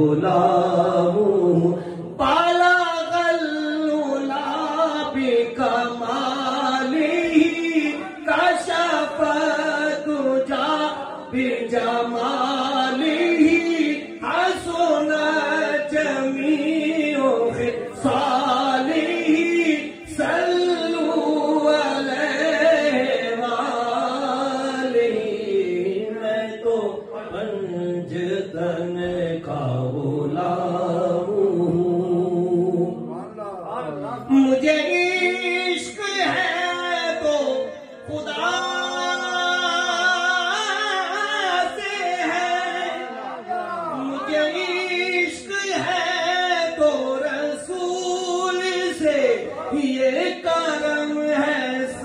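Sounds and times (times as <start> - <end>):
man singing into a microphone: 0.0 - 52.0.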